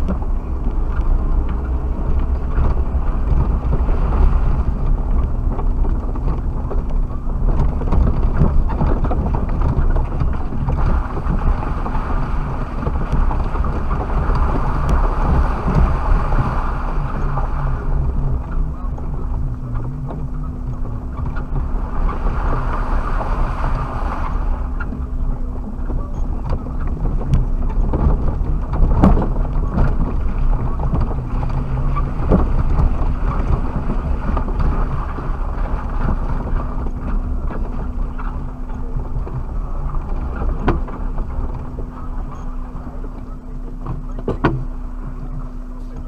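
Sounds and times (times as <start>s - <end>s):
car body knocking and rattling: 0.0s - 46.0s
car engine running: 0.0s - 46.0s.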